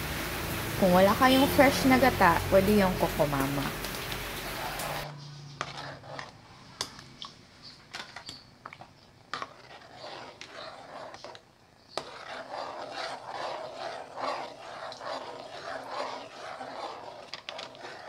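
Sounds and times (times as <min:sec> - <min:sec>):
ladle scraping metal pot: 0:01.3 - 0:07.0, 0:07.7 - 0:18.0.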